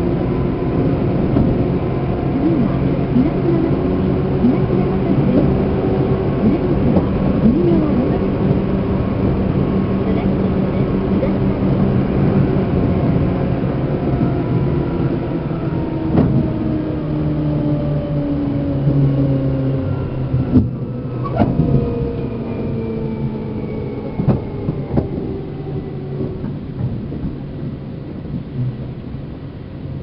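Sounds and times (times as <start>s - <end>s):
train running rumble: 0.0s - 30.0s.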